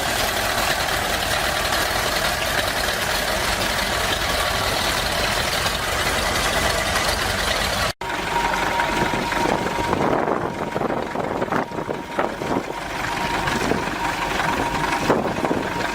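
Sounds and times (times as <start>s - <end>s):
thin steady whine: 0.0s - 15.9s
tractor engine running: 0.0s - 15.9s.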